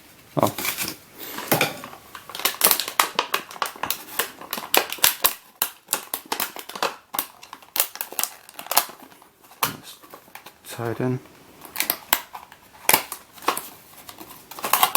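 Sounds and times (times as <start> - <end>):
hands handling plastic packaging: 0.0 - 14.9.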